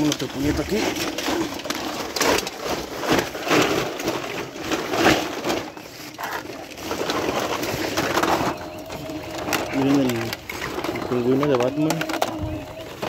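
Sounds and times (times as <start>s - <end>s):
plastic toys rustling and knocking: 0.0s - 13.0s.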